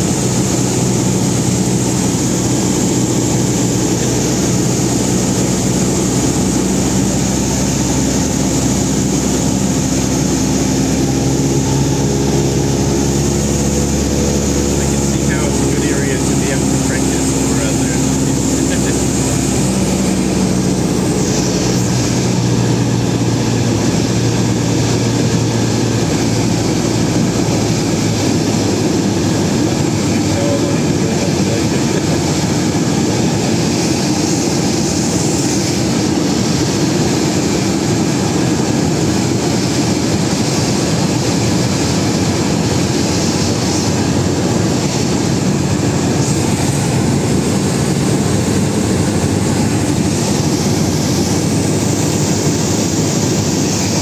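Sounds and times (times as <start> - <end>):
airplane engine and propeller drone: 0.0 - 54.0
rush of air: 0.1 - 54.0.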